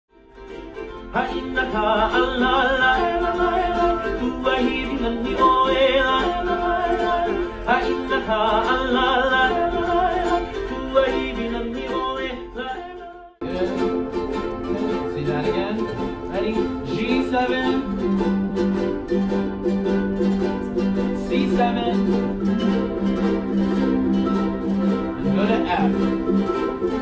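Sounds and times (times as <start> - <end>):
strummed ukuleles and guitar: 0.1 - 27.0
person singing: 0.8 - 27.0.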